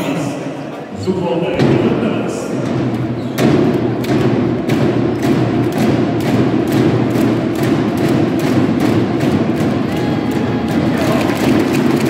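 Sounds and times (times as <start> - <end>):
arena crowd noise: 0.0 - 12.0
steady thumping beat: 1.5 - 12.0.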